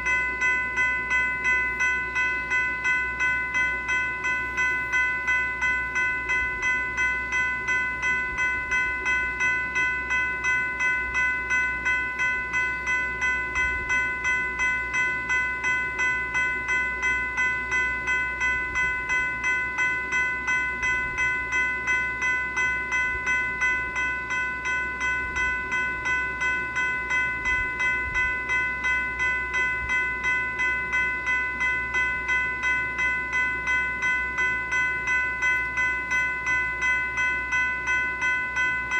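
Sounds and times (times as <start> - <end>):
electronic bell dinging: 0.0 - 38.9.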